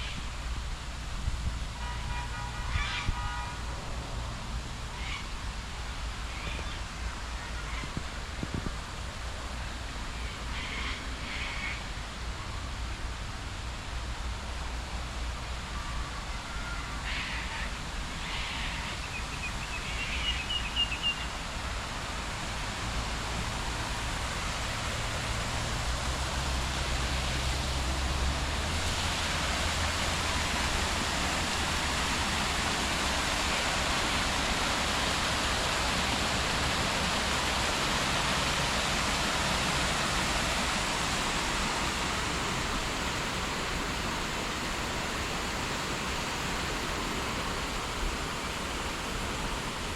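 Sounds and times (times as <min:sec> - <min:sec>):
steady rain falling: 0:03.4 - 0:49.9.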